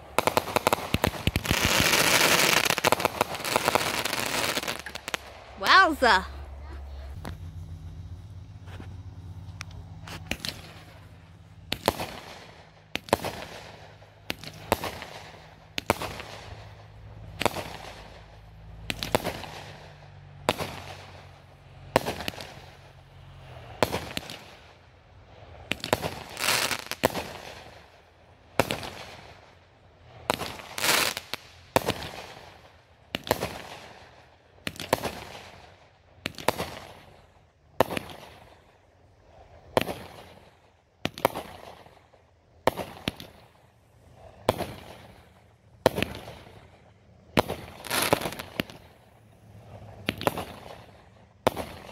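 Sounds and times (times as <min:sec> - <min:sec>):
fireworks bangs: 0:00.0 - 0:21.3, 0:21.9 - 0:22.9, 0:23.6 - 0:24.8, 0:25.6 - 0:28.0, 0:28.6 - 0:29.6, 0:30.2 - 0:38.7, 0:39.7 - 0:51.9.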